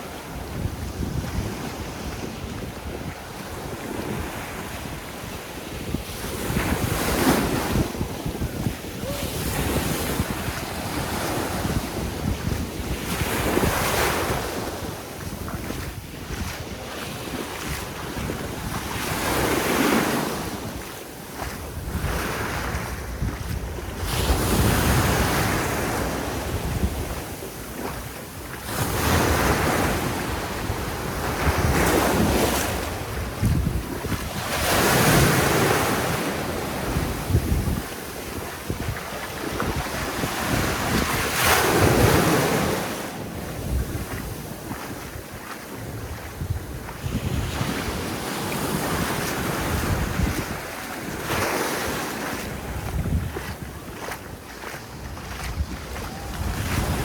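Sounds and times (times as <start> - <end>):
waves breaking on a beach: 0.0 - 57.0
wind buffeting microphone: 0.0 - 57.0.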